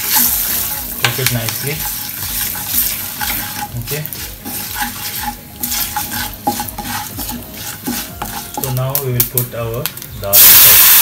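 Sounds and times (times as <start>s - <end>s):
utensil scraping pan: 0.0s - 9.5s
spices sizzling in hot oil: 0.0s - 11.0s.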